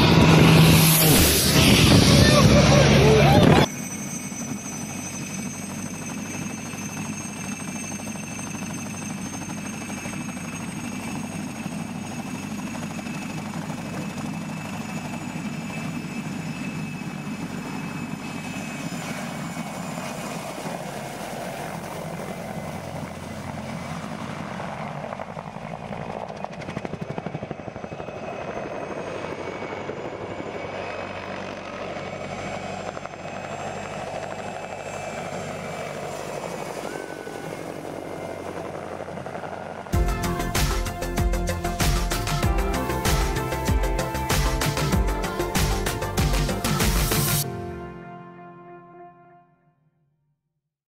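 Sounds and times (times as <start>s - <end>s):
helicopter rotor beat: 0.0s - 48.5s
helicopter engines whining: 0.0s - 48.7s.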